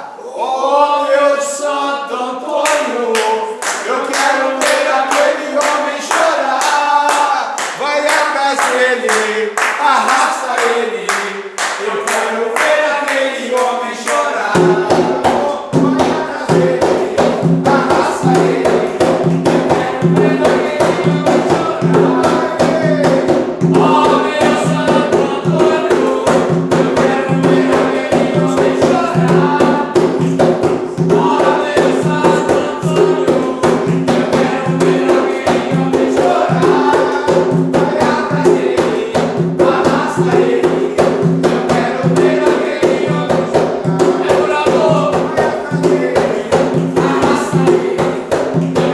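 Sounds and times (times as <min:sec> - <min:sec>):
voices singing together: 0:00.0 - 0:48.9
fast drumming and percussion: 0:04.1 - 0:48.9.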